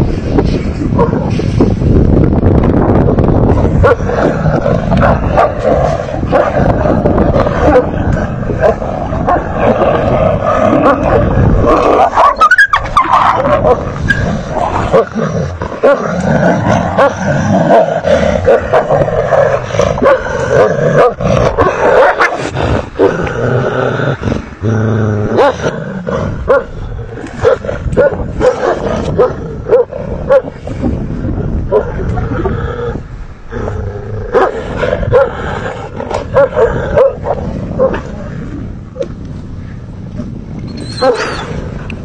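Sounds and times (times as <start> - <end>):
dog and wolves growling: 2.9 - 38.7.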